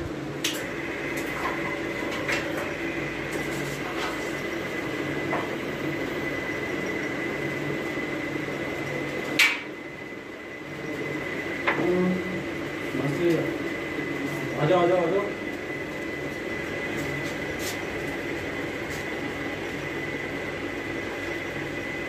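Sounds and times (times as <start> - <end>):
hydraulic pump motor humming: 0.0 - 22.0.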